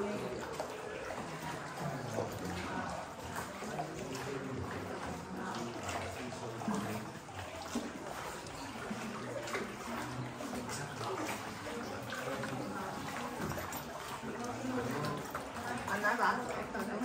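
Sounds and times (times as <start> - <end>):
echoing paddle splashes: 0.0 - 17.0
water lapping around boat: 0.0 - 17.0.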